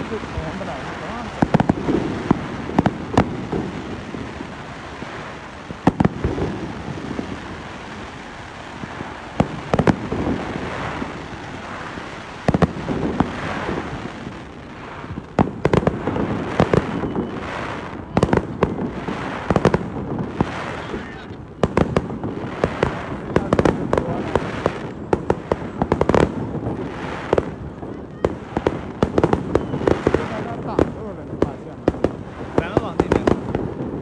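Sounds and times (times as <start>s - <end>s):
fireworks bangs: 0.0s - 34.0s
fireworks crackle: 0.0s - 34.0s.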